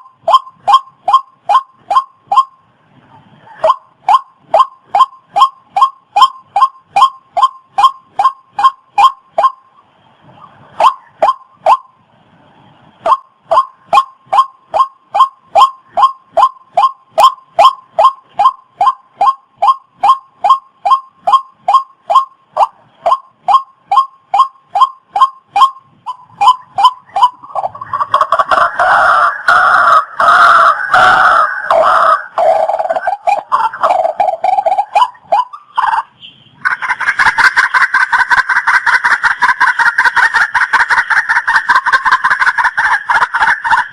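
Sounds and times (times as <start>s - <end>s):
waterhen calling: 0.0s - 9.6s, 10.4s - 11.9s, 13.0s - 43.9s.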